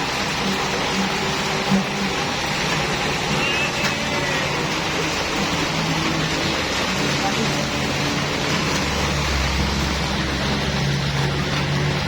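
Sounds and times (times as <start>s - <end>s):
vehicle noise with hiss: 0.0s - 12.0s.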